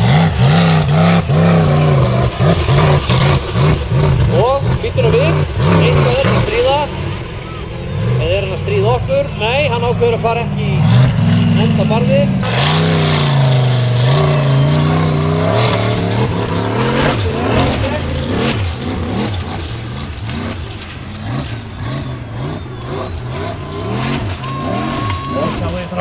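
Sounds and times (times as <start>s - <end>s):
buggy engine revving hard: 0.0s - 26.0s.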